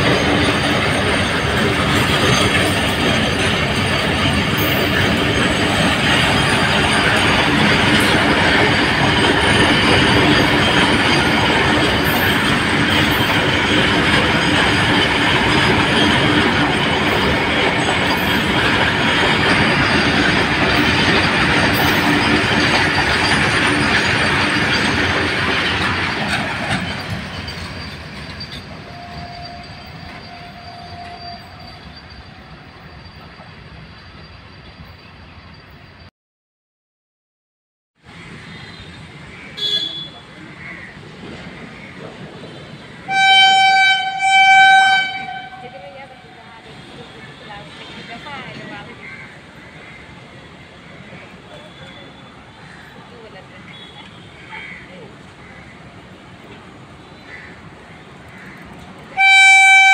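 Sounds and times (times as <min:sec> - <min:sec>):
train wheels rumbling on rail: 0:00.0 - 0:36.1, 0:38.0 - 0:59.9.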